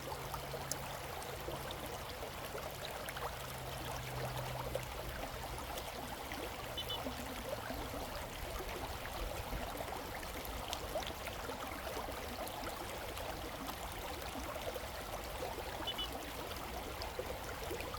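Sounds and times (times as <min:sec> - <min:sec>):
creek water flowing: 0:00.0 - 0:17.9.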